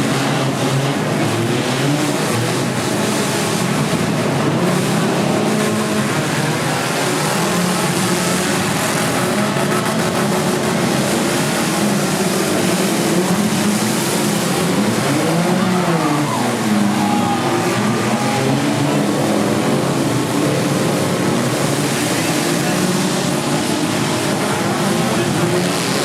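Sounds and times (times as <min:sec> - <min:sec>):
car engines running and revving: 0:00.0 - 0:26.0.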